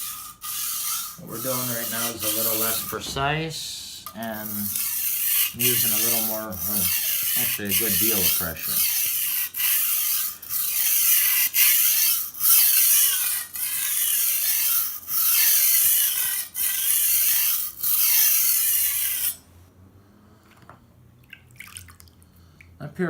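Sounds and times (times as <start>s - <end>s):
blade grinding on sharpening stone: 0.0s - 3.1s, 4.0s - 19.5s.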